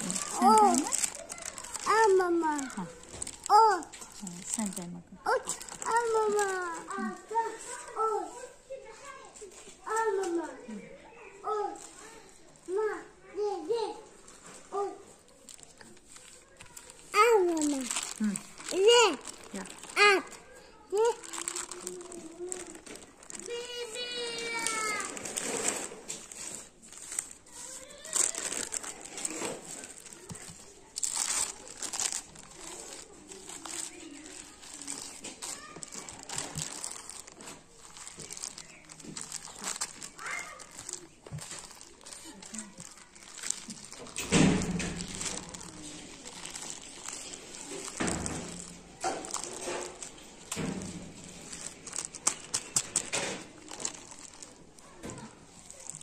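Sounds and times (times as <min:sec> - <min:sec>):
sharp crackles: 0:00.0 - 0:04.8, 0:15.3 - 0:20.4, 0:21.0 - 0:56.0
baking paper crinkling: 0:00.0 - 0:12.8, 0:13.9 - 0:56.0.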